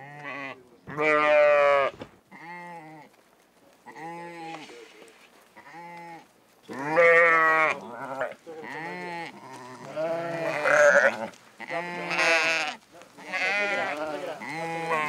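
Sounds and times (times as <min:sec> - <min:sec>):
sheep and goats bleating: 0:00.0 - 0:03.2, 0:03.8 - 0:04.9, 0:05.6 - 0:15.0.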